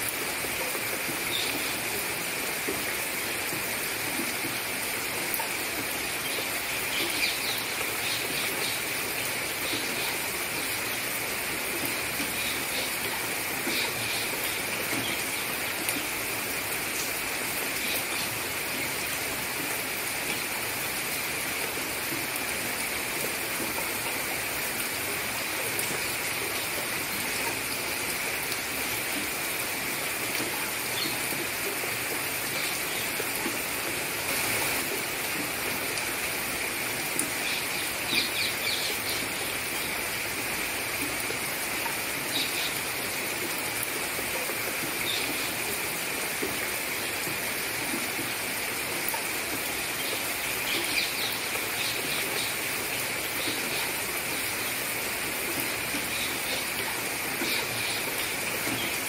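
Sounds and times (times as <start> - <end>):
rain falling on lake: 0.0 - 59.0.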